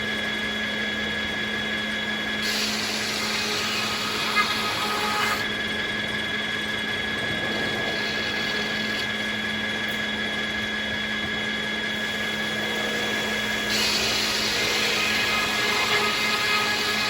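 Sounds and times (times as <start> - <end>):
circular sawmill running: 0.0 - 17.0.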